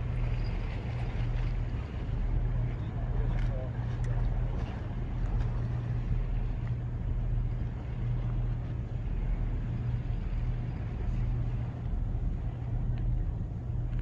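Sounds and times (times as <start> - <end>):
low rumble: 0.0 - 14.0
outdoor noise: 0.0 - 14.0
steady low hum: 0.0 - 14.0.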